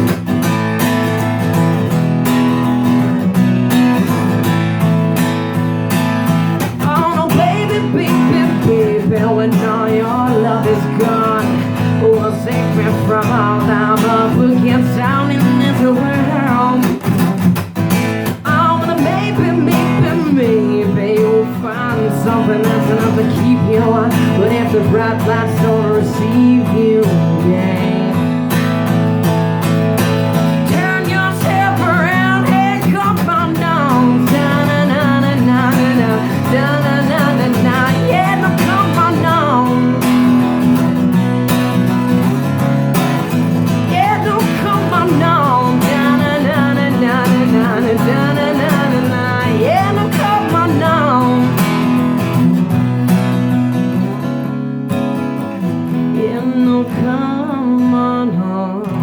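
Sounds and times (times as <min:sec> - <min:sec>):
acoustic guitar strumming: 0:00.0 - 0:59.0
person singing: 0:05.2 - 0:52.7, 0:55.9 - 0:59.0.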